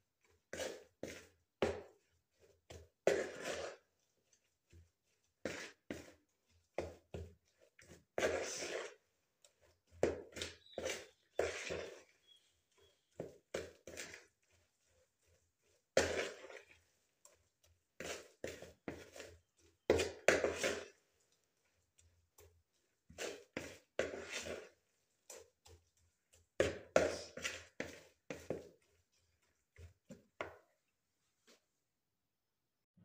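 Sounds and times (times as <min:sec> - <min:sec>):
spoon stirring batter in plastic bowl: 0:00.0 - 0:31.9.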